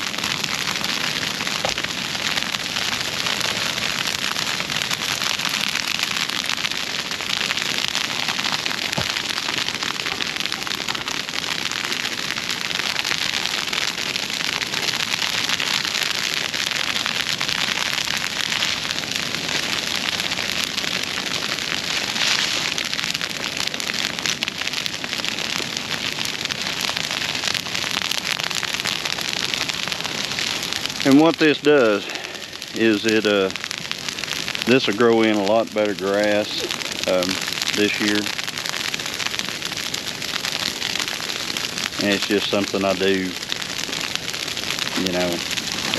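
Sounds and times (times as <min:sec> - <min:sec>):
dry grass crackling in flames: 0:00.0 - 0:45.9.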